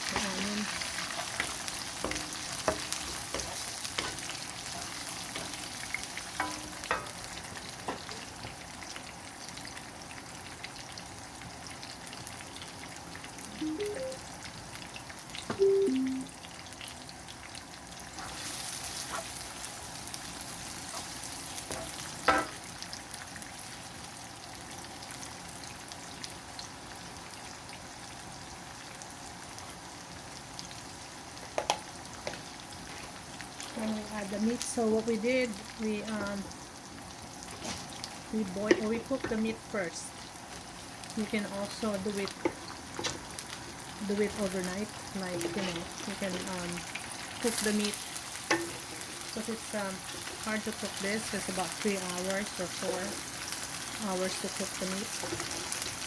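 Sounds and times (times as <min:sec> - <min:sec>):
onion and garlic sizzling: 0:00.0 - 0:56.0.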